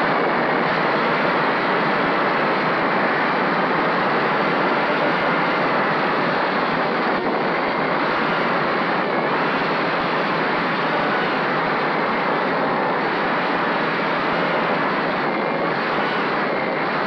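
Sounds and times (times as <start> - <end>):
quadcopter propeller wash: 0.1 - 17.0.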